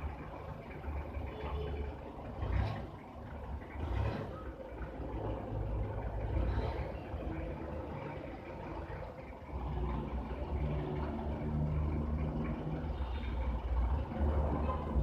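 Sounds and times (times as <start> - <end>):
engine running low rumble: 0.0 - 15.0.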